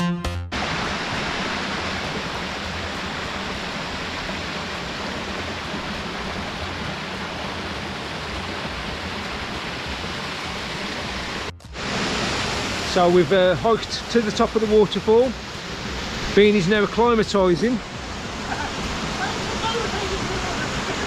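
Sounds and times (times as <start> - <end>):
waterfall rushing: 0.5 - 21.0.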